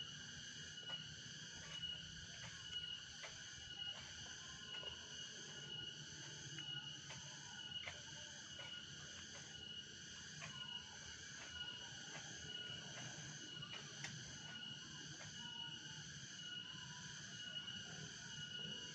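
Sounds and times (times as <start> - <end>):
insects chirring: 0.0 - 18.9.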